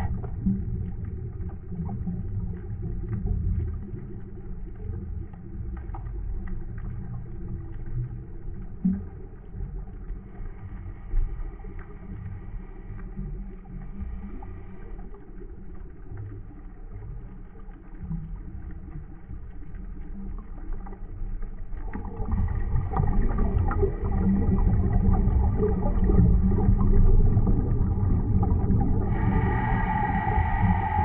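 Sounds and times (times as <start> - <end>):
underwater low rumble and hum: 0.0 - 31.0.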